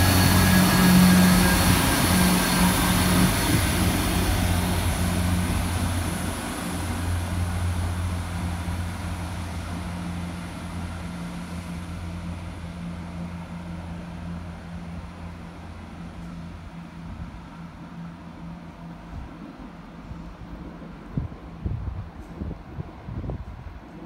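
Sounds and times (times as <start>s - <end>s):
diesel train engine hum: 0.0s - 24.0s.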